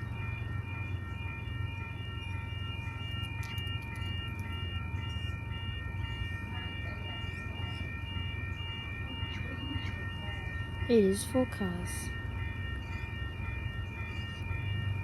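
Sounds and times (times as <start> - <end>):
electric train humming: 0.0 - 15.0
high tone beeping: 0.0 - 15.0.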